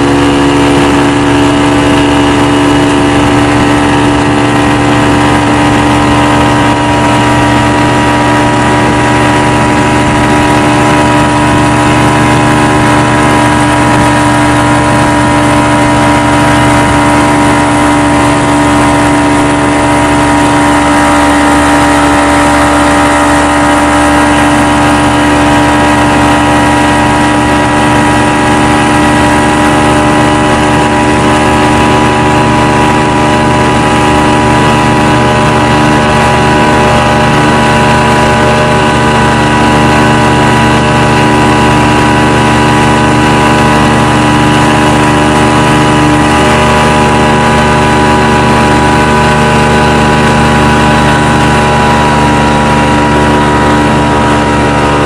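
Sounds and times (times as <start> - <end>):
motorboat engine running: 0.0 - 55.0
rushing water: 0.0 - 55.0
wind: 0.0 - 55.0.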